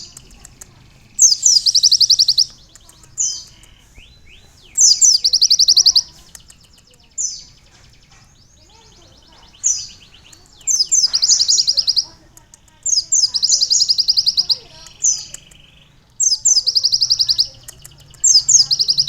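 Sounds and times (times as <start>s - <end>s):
bird singing fast trills: 0.0s - 19.0s
bird twittering: 0.0s - 19.0s.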